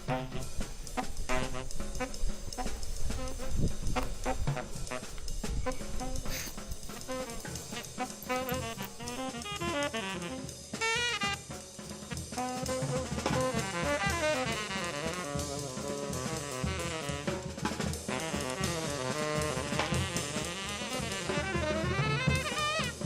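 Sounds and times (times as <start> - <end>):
instrumental melody: 0.0 - 23.0
steady drum beat: 0.0 - 23.0.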